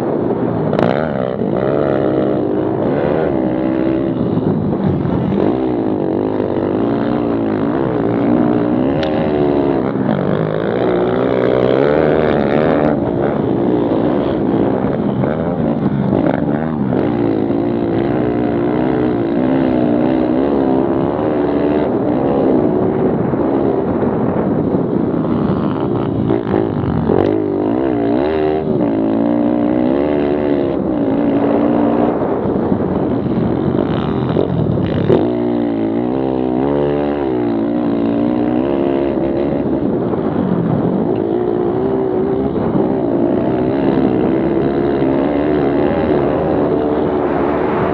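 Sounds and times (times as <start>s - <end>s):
pit bike engines revving: 0.0s - 47.9s.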